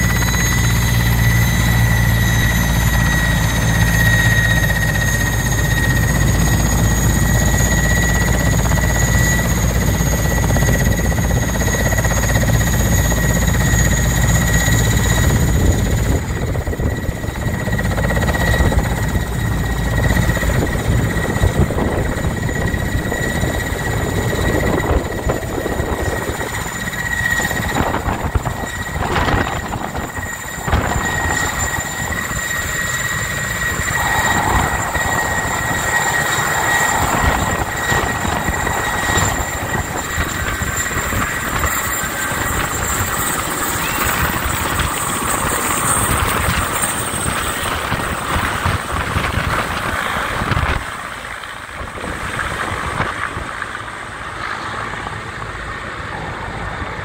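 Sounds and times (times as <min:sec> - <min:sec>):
helicopter engines whining: 0:00.0 - 0:57.0
helicopter rotor noise: 0:00.0 - 0:57.0.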